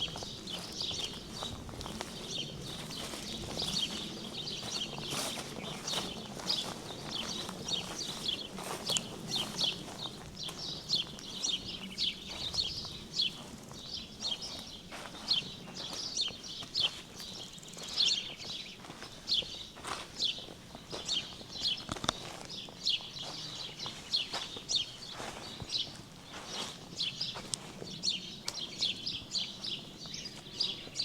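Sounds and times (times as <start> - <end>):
footstep on path: 0.0 - 31.0
songbirds chirping: 0.0 - 31.0.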